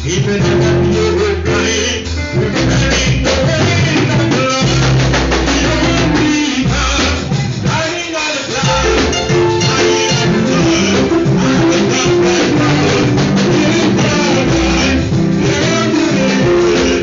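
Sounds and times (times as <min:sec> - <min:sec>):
church band playing: 0:00.0 - 0:17.0
drum kit beat: 0:00.0 - 0:17.0.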